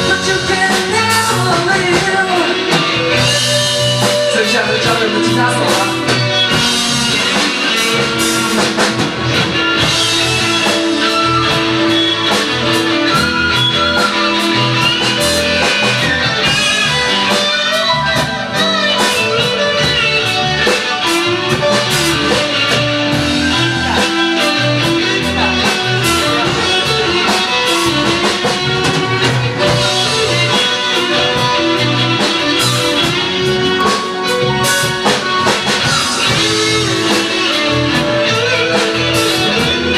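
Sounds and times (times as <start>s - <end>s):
rock band instrumental: 0.0s - 39.9s.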